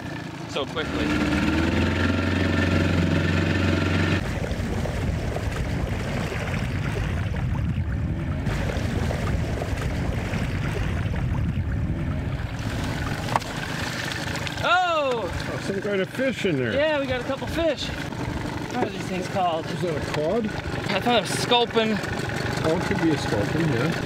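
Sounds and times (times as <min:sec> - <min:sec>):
boat engine hum: 0:00.0 - 0:24.0
rough engine rumble: 0:00.0 - 0:24.0
water noise: 0:00.0 - 0:24.0.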